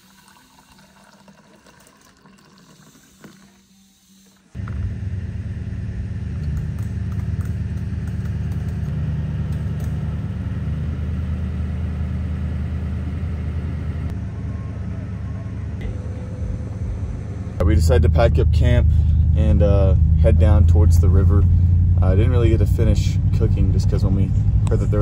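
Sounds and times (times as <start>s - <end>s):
motor vehicle running: 4.6s - 25.0s.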